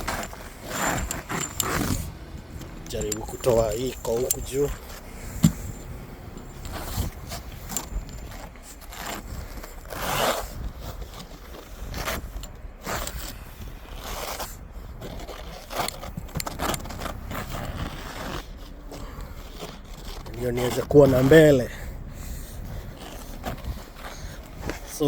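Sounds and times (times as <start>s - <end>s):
snow scraper scraping ice off car: 0.0s - 25.0s.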